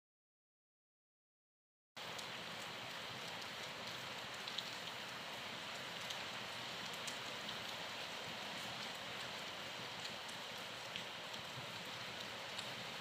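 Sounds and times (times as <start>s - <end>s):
rain falling steadily: 2.0s - 13.0s.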